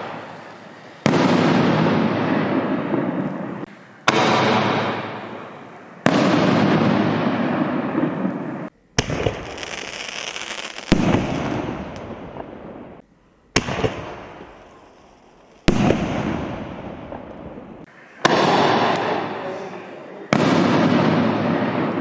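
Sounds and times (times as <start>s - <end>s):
rumble after firework bursts: 0.0s - 19.6s, 20.2s - 22.0s
fireworks booming: 0.0s - 22.0s.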